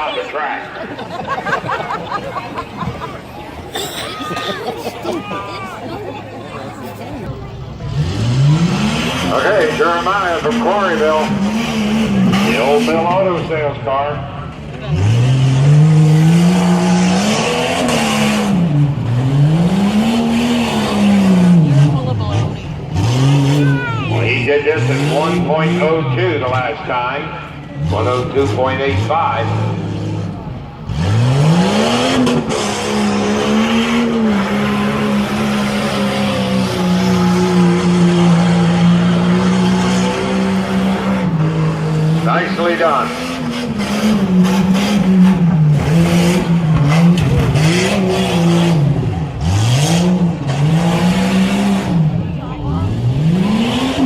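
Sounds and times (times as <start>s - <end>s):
truck engine revving hard: 0.0s - 54.0s.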